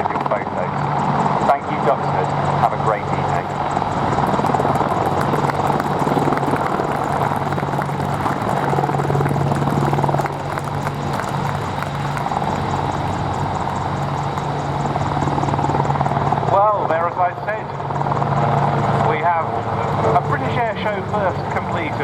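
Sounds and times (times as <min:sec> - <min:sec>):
helicopter rotor chop: 0:00.0 - 0:22.0
turbine engine noise: 0:01.4 - 0:22.0.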